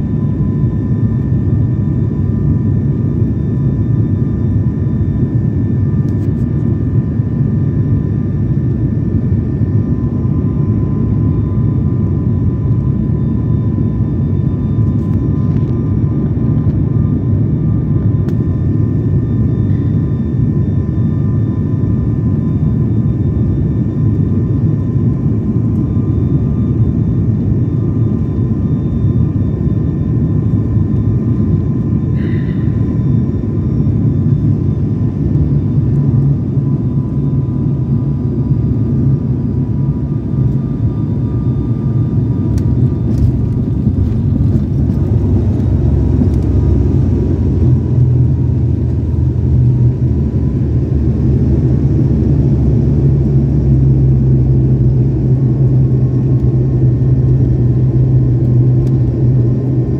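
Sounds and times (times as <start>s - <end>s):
propeller engines humming: 0.0s - 59.9s.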